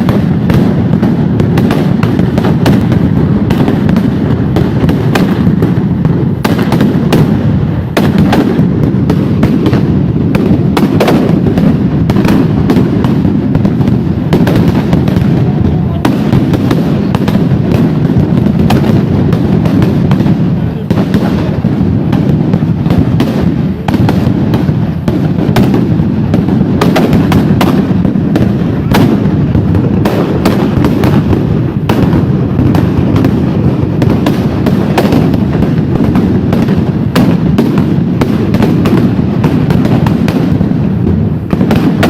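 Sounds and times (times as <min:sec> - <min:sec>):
firecrackers bangs and crackles: 0:00.0 - 0:42.0.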